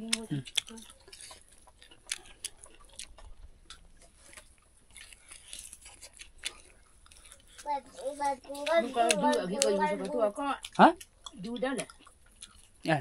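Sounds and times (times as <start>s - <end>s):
crunching on chicken bones: 0.1s - 9.7s, 10.6s - 12.9s.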